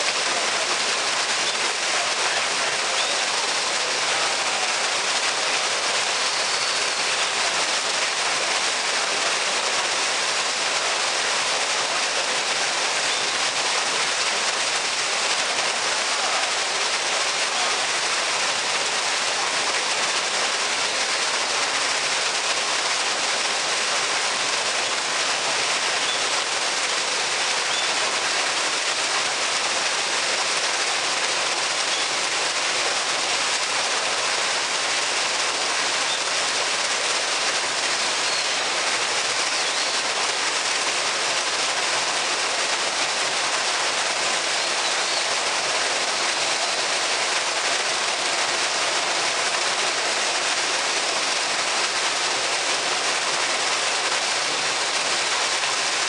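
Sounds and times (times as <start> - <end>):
water splashing into a pool: 0.0 - 56.0.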